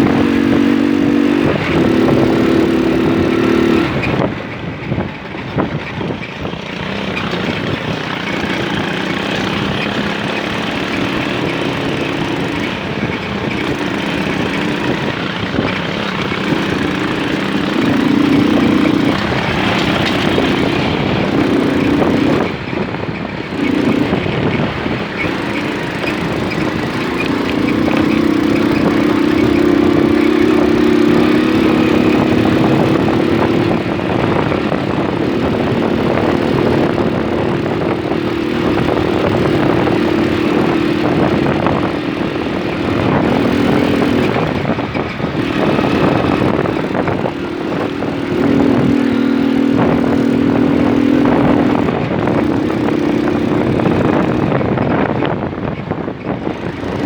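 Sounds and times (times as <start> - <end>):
moped engine revving: 0.0 - 57.0
rough rattling noise: 0.0 - 57.0.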